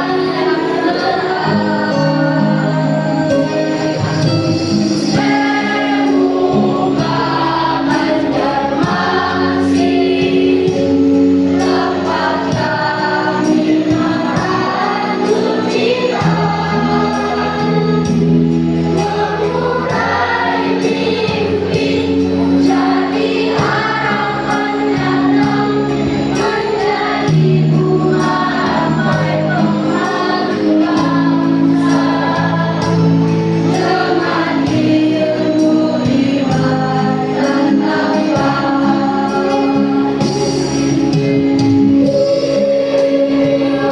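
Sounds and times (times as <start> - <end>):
accompaniment chords: 0.0 - 43.9
choir singing: 0.0 - 43.9.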